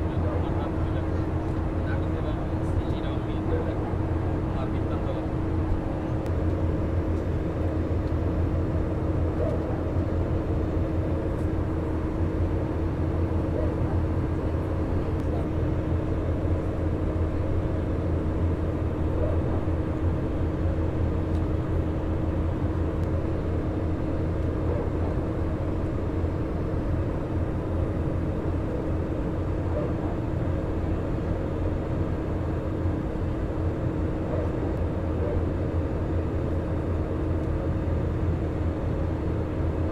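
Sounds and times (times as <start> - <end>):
aircraft cabin engine drone: 0.0 - 39.9
constant humming tone: 0.0 - 39.9.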